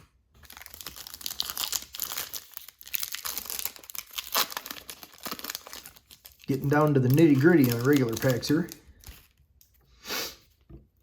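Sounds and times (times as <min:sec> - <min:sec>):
foil wrapper crinkling and tearing: 0:00.4 - 0:09.7.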